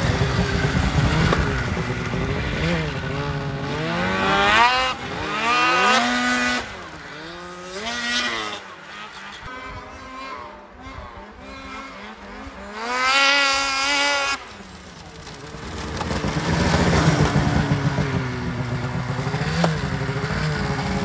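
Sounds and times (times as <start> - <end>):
snowmobile engines revving: 0.0 - 21.0.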